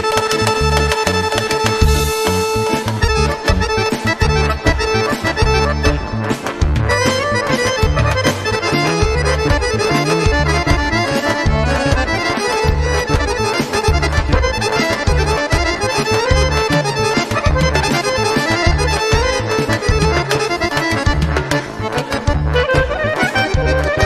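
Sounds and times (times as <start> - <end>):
accordion-led folk band music: 0.0 - 24.0.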